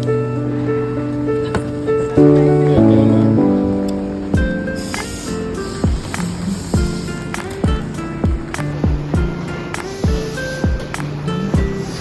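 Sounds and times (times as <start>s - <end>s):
melodic background music: 0.0s - 12.0s.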